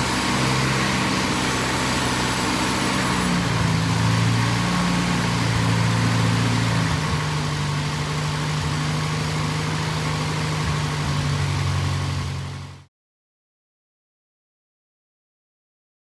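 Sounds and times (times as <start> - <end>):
tractor engine idling: 0.0 - 12.8.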